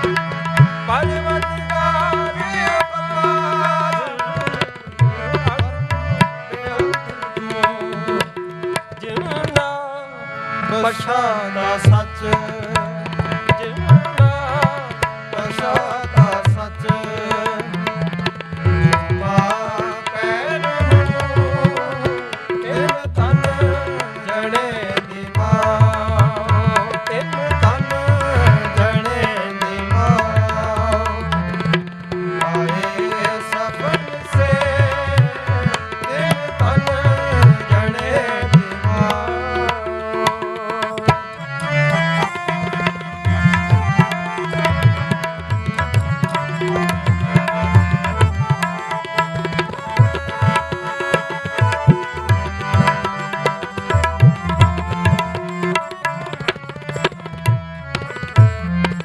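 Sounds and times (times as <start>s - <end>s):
tabla drumming: 0.0s - 9.8s, 11.6s - 59.0s.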